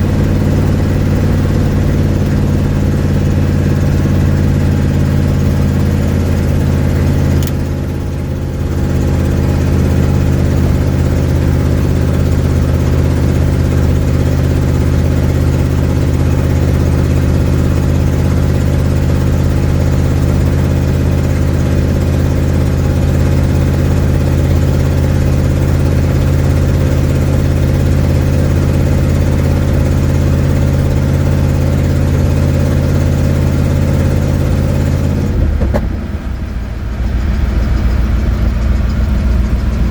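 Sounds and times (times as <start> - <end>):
car engine running from inside cabin: 0.0 - 39.9.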